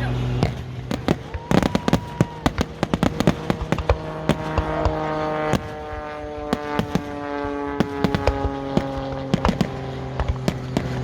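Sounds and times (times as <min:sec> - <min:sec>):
fireworks bursting and crackling: 0:00.3 - 0:11.0.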